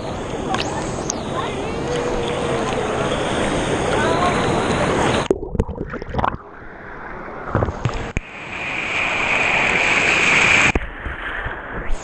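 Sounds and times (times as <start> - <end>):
rushing water heard underwater: 0.0 - 12.0.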